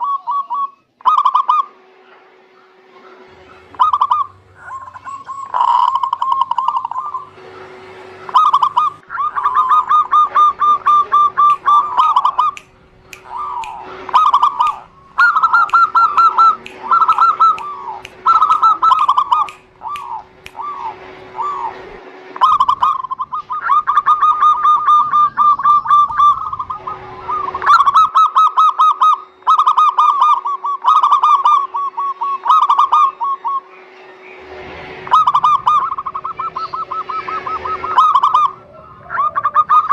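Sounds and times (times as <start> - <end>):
doves cooing in trilled notes: 0.0 - 1.8, 2.5 - 39.9
faint steady hum: 0.0 - 39.9.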